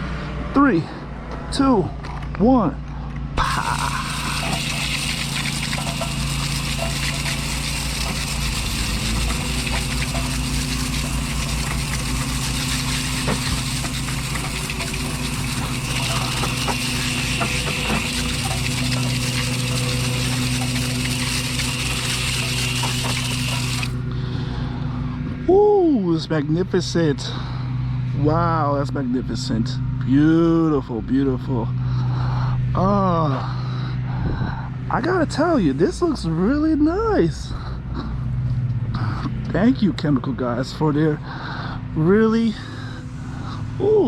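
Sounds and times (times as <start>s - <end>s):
motor hum: 0.0s - 44.0s.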